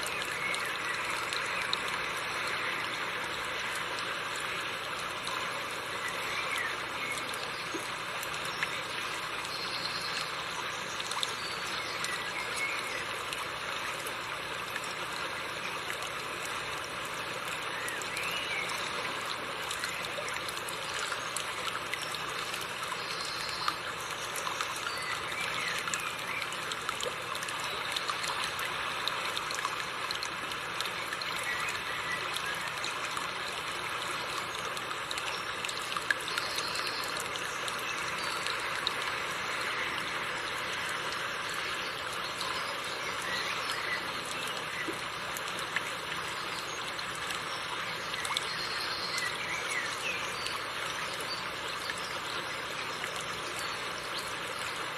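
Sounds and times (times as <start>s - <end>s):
river water running over rocks: 0.0s - 54.9s.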